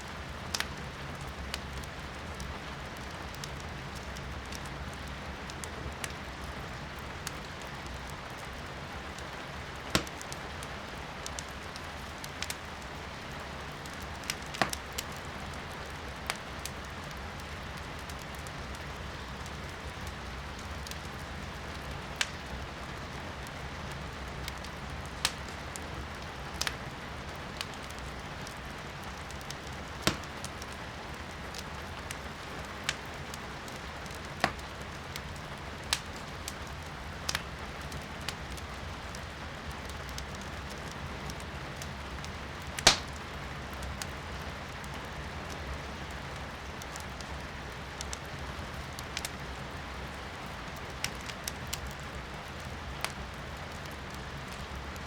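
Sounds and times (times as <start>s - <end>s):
firewood crackling and popping: 0.0s - 55.0s
rain heard from indoors: 0.0s - 55.0s.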